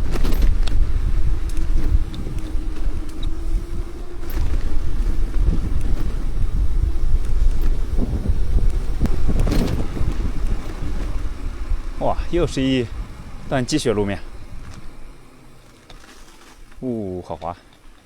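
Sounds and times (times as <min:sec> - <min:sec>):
wind buffeting microphone: 0:00.0 - 0:15.7
faint steady hum: 0:00.0 - 0:18.0.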